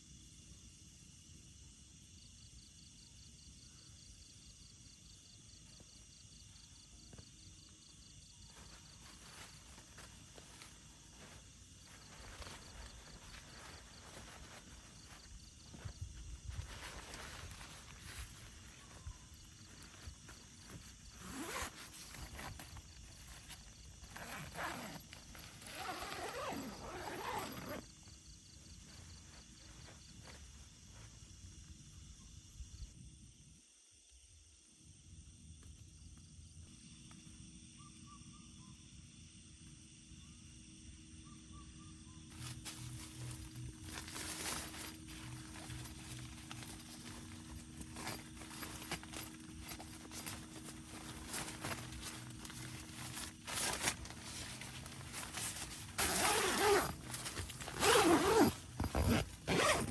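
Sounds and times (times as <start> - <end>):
night insect chirping: 0.0 - 59.9.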